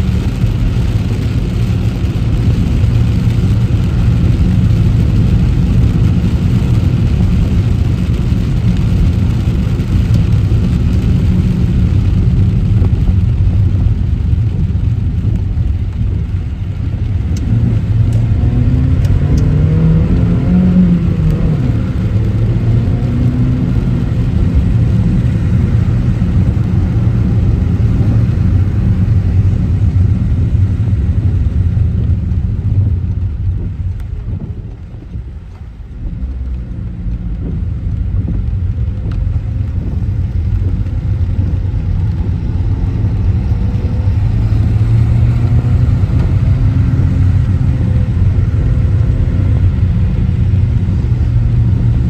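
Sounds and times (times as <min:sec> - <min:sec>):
car engine: 0:00.0 - 0:52.0
road rumble: 0:00.0 - 0:52.0.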